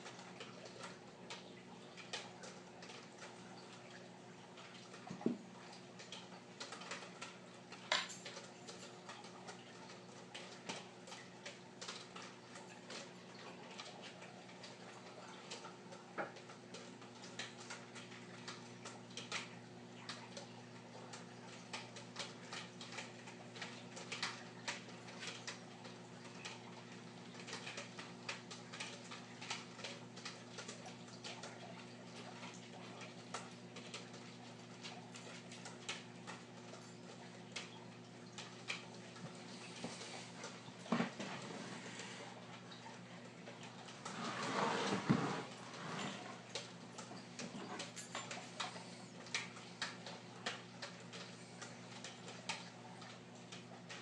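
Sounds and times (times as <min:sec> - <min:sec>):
water ticks and bubble pops: 0:00.0 - 0:44.2, 0:45.0 - 0:54.0
aquarium pumps humming: 0:00.0 - 0:54.0.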